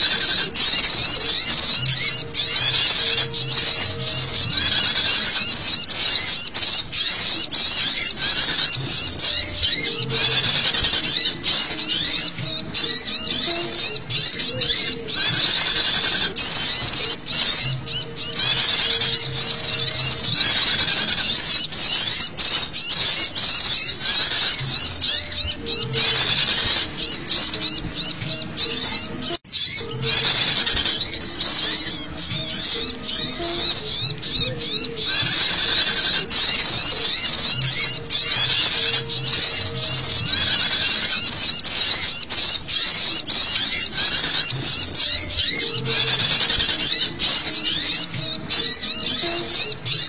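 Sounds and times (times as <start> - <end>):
small birds chirping and twittering: 0.0 - 50.0.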